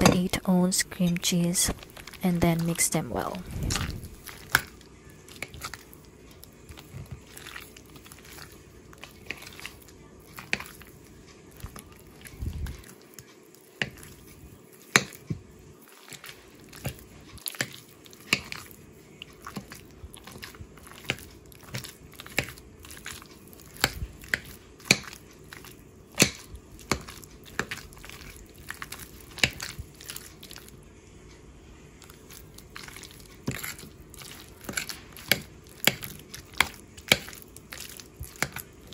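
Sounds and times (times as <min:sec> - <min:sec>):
soft squelching: 0:00.0 - 0:30.8, 0:31.9 - 0:38.9.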